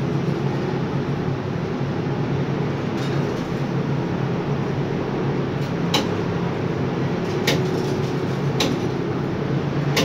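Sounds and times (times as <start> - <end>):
crane cab mechanical drone: 0.0 - 10.0.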